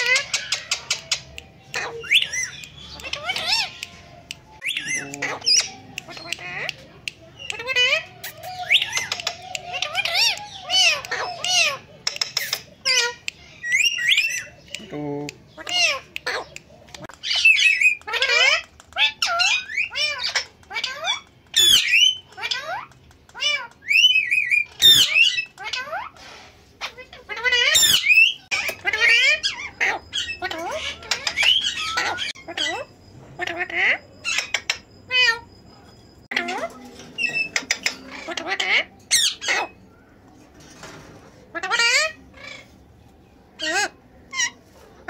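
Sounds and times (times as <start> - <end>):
parakeets squawking: 0.0 - 35.7, 36.3 - 45.0.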